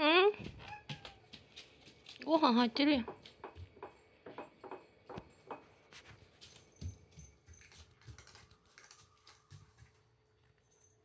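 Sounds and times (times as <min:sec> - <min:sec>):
faint clicks and taps: 0:00.4 - 0:10.6.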